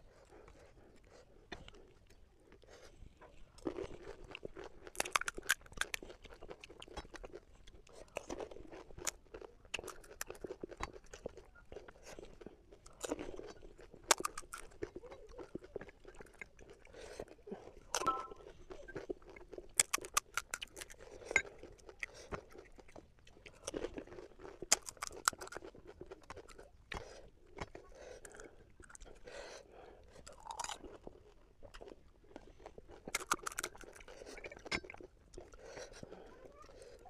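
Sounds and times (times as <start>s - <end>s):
chewing: 0.0s - 37.0s
crunching of crisp food: 0.0s - 37.0s.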